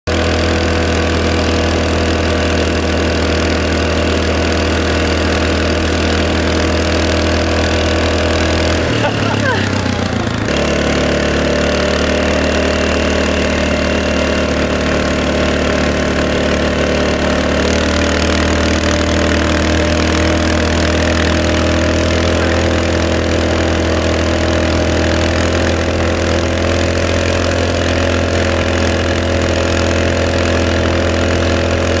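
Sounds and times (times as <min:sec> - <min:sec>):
quad bike engine running: 0:00.0 - 0:32.0.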